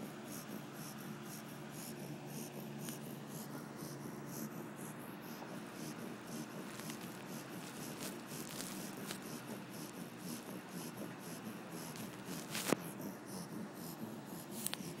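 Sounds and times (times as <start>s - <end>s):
dog snoring: 0.0s - 15.0s.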